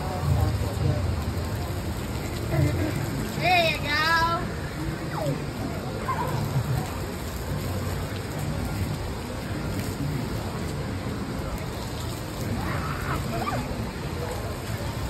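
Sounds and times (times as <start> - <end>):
water jets spraying and pattering: 0.0 - 15.0.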